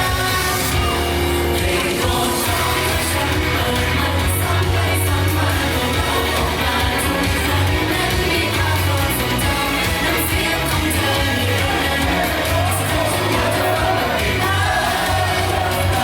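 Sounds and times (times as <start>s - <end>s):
pop song with vocals: 0.0s - 16.0s
steady bass beat: 0.0s - 16.0s.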